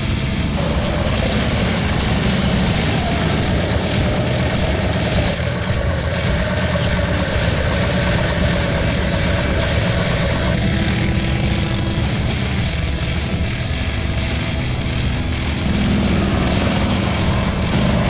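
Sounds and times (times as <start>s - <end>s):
vehicle engine running steadily: 0.0s - 18.0s.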